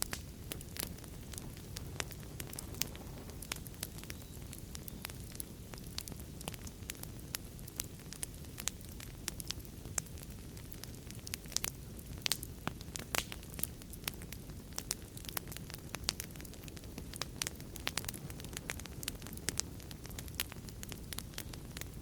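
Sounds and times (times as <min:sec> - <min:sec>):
fire crackling and popping: 0:00.0 - 0:22.0
low rumble of burning: 0:00.0 - 0:22.0.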